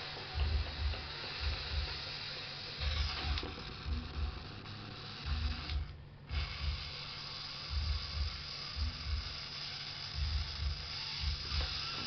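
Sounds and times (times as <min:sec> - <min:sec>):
steam boiler hissing: 0:00.0 - 0:12.0.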